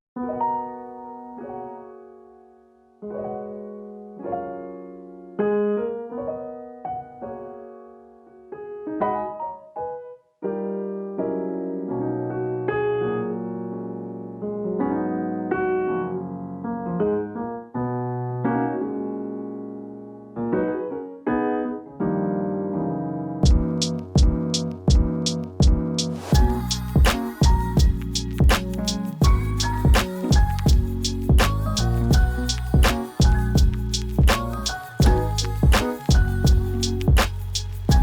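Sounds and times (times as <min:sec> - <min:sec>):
solo piano melody: 0:00.2 - 0:38.0.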